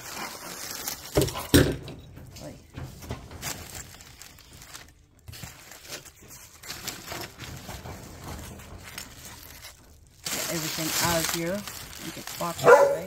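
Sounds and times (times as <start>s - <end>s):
bubble wrap crinkling: 0.0s - 1.6s, 2.4s - 13.0s.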